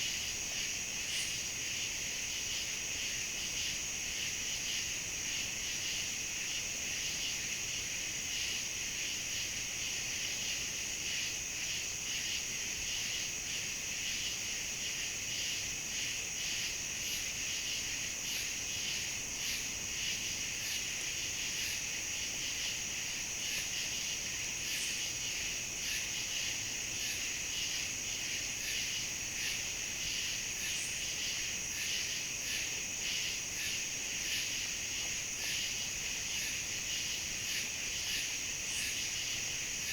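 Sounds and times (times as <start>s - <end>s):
crickets trilling: 0.0s - 39.9s
faint high insect ticks: 0.0s - 39.9s.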